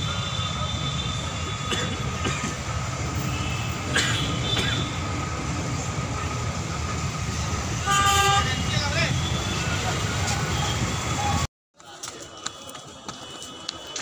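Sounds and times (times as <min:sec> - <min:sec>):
traffic engine and road rumble: 0:00.0 - 0:14.0.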